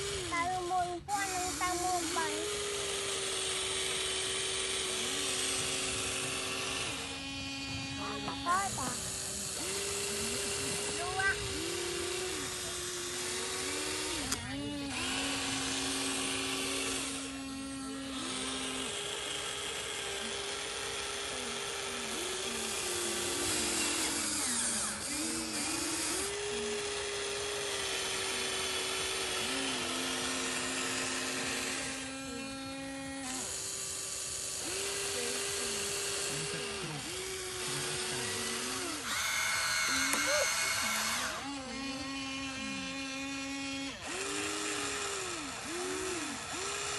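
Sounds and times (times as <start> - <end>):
electric motors whining: 0.0 - 46.9.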